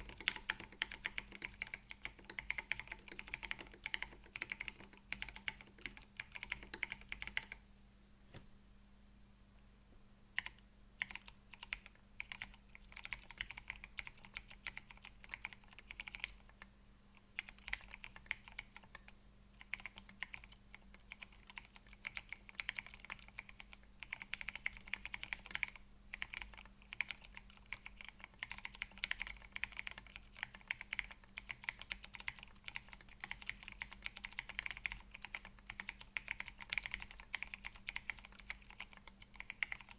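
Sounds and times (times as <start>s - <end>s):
mechanical keyboard typing: 0.0s - 7.6s, 10.4s - 39.9s.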